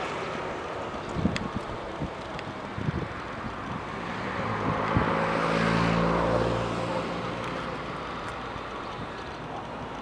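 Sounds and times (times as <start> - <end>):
light aircraft engine droning: 0.0 - 10.0.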